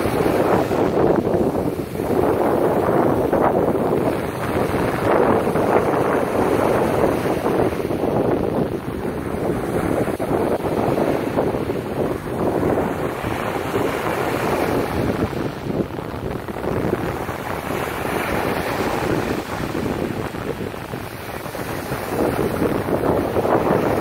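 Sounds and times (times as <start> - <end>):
waves breaking on sand: 0.0 - 24.0
wind buffeting microphone: 0.0 - 24.0.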